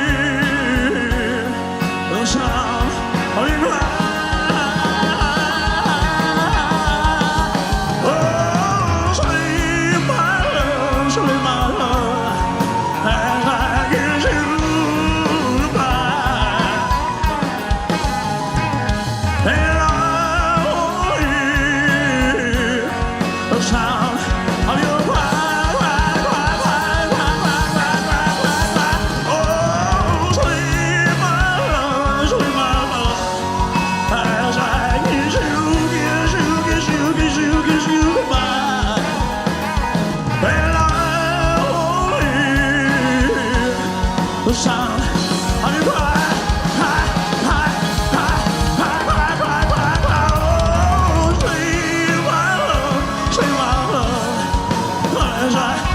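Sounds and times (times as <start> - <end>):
live rock band playing ballad: 0.0 - 55.9
people singing: 0.0 - 55.9.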